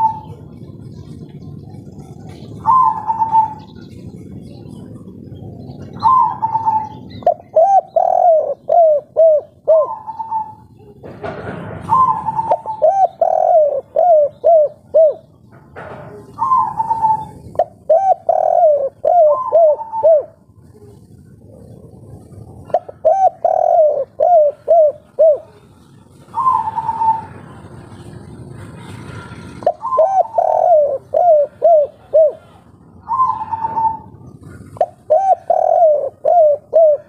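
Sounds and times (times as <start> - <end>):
dove cooing: 0.0 - 28.1, 28.8 - 37.0.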